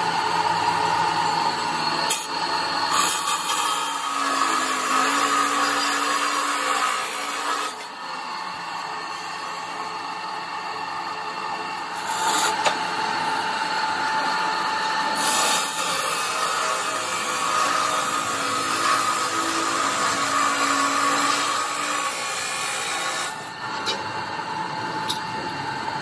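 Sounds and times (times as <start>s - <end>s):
cut-off saw grinding metal: 0.0s - 25.3s.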